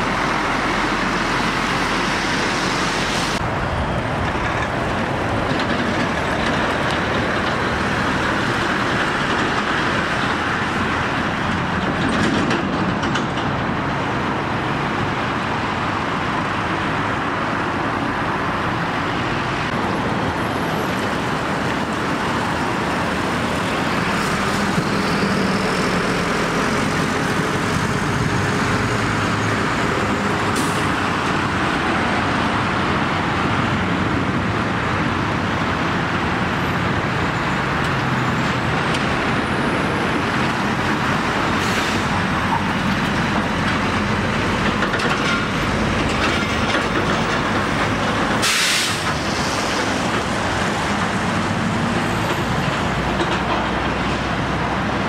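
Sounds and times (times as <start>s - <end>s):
road traffic noise: 0.0s - 55.0s
truck diesel engines running: 0.0s - 55.0s.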